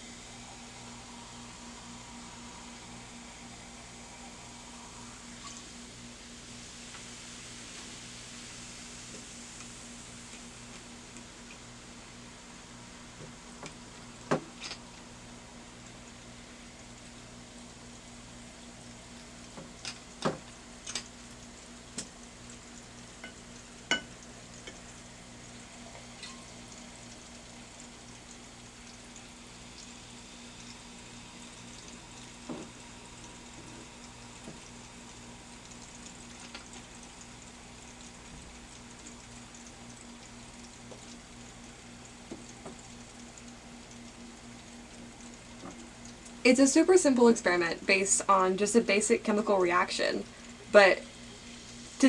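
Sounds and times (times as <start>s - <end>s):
baking soda and vinegar fizzing: 0.0s - 52.0s.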